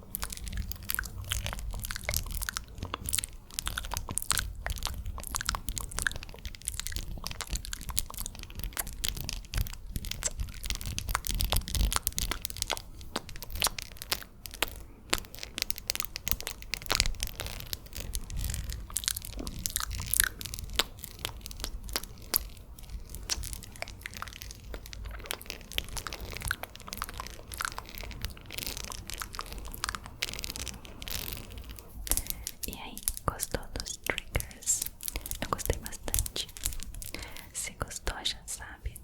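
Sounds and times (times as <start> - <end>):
wet mouth clicks and smacks: 0.0 - 39.0.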